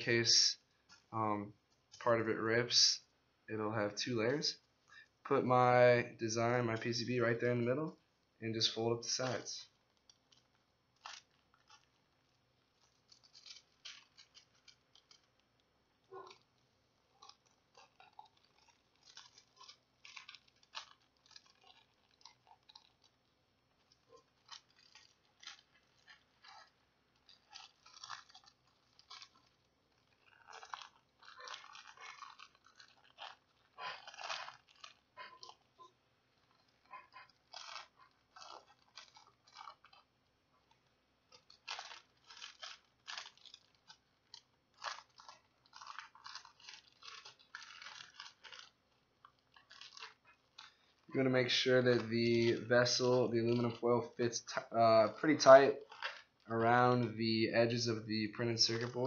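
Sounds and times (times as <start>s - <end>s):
aluminium foil crinkling: 3.9s - 59.0s.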